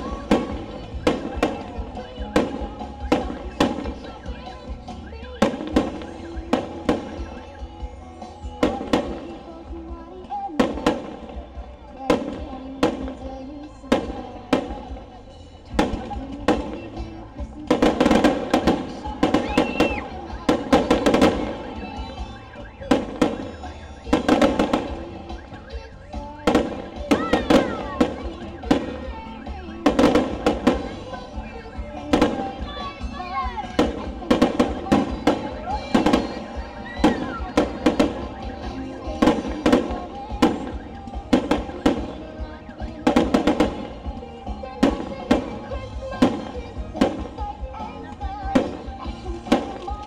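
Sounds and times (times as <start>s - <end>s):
fireworks bangs: 0.0s - 50.0s
music playing: 0.0s - 50.0s.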